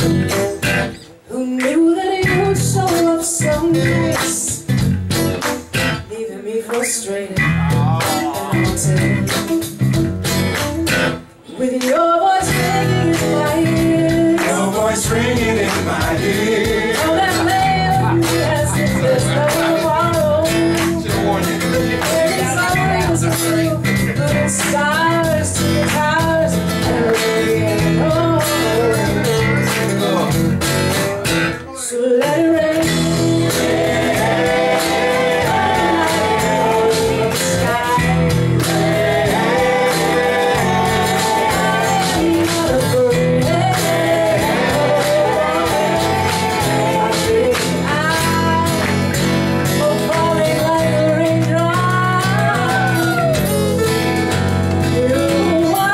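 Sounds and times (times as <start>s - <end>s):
electric bass: 0.0s - 1.0s, 2.2s - 6.1s, 7.4s - 11.3s, 12.4s - 31.6s, 32.7s - 55.9s
woman singing lead: 0.0s - 4.8s, 6.0s - 9.5s, 11.4s - 21.0s, 22.0s - 29.7s, 31.8s - 55.9s
strummed acoustic guitars: 0.0s - 55.9s.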